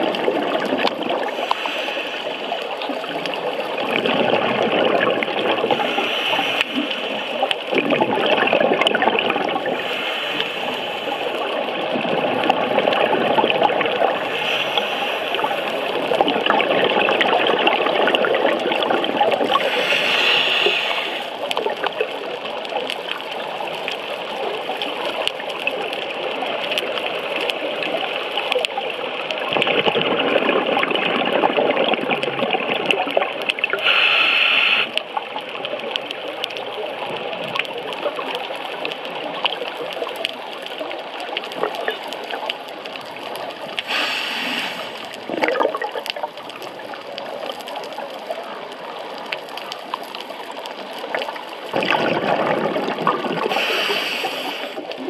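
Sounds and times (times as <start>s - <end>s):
rushing water: 0.0s - 55.0s
underwater bubbling: 0.0s - 55.0s.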